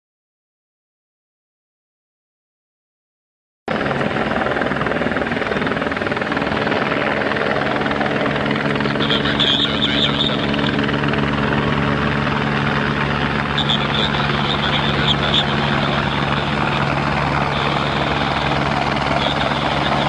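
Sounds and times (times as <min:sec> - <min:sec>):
helicopter rotor and turbine: 0:03.7 - 0:20.0
high whine: 0:03.7 - 0:20.0.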